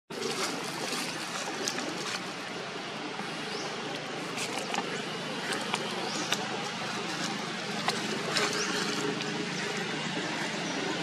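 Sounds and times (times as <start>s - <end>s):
steady rushing noise: 0.1s - 11.0s.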